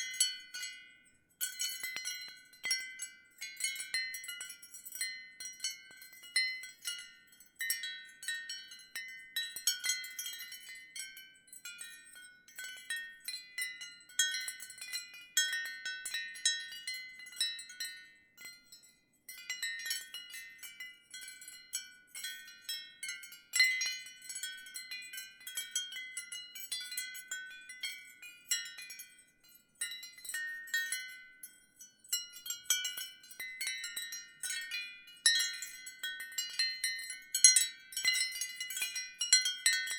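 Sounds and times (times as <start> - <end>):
ceramic wind chimes ringing: 0.0 - 39.9.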